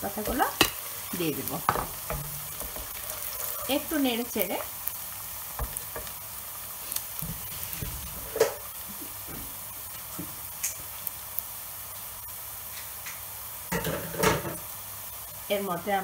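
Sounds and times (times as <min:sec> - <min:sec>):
small crackles and pops: 0:00.0 - 0:13.4
onions sizzling in hot oil: 0:00.0 - 0:16.0.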